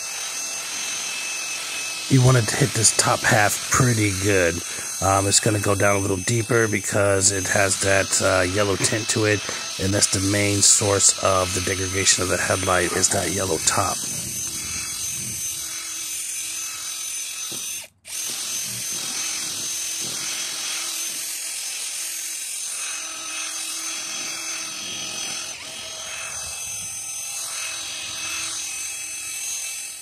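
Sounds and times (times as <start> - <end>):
drill motor whine: 0.0 - 30.0
sanding pad grinding plastic: 0.0 - 30.0.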